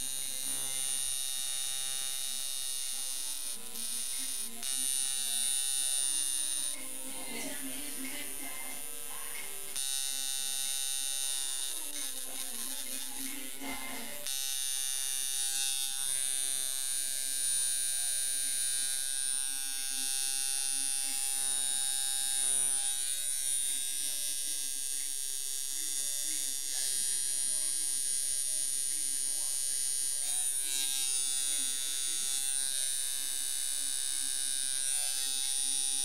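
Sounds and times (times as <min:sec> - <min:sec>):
tattoo machine buzzing: 0:00.0 - 0:36.0.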